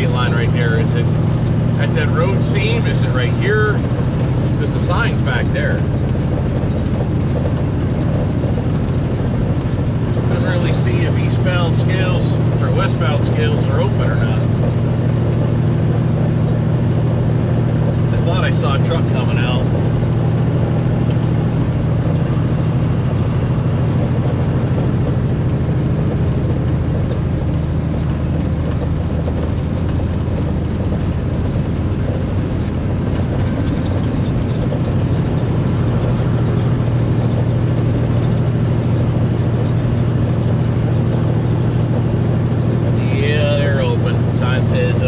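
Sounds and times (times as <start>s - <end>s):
diesel engine droning: 0.0s - 45.0s
road noise: 0.0s - 45.0s.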